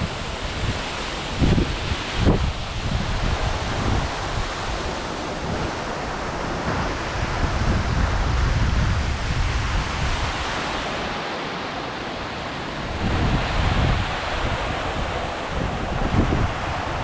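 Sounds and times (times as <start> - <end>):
waterfall rushing: 0.0 - 17.0
wind buffeting microphone: 0.0 - 17.0.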